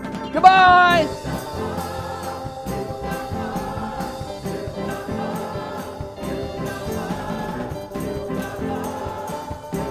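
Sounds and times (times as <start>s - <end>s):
steady beat: 0.2s - 9.9s
choir singing gospel song: 0.3s - 9.9s.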